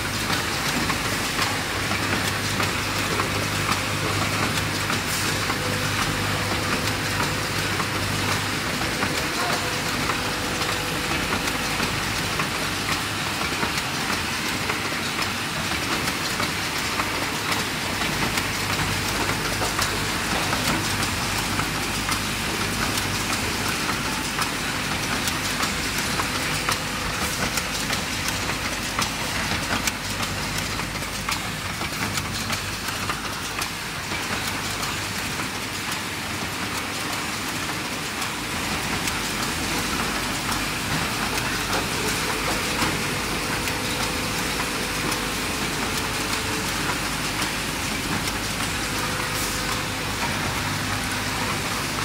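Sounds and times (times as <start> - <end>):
machine clattering clicks: 0.2 - 52.0.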